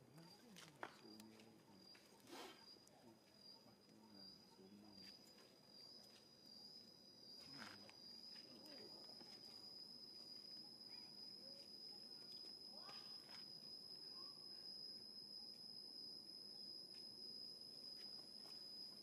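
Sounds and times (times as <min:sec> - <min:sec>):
insect singing high tone: 0:00.0 - 0:19.0.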